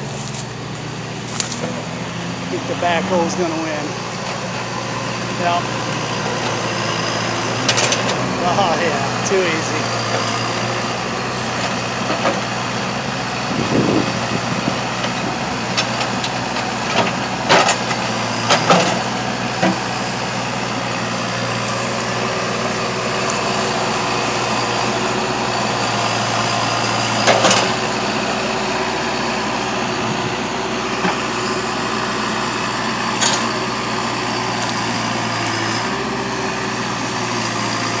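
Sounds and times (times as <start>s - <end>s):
diesel engine under hydraulic load: 0.0s - 38.0s.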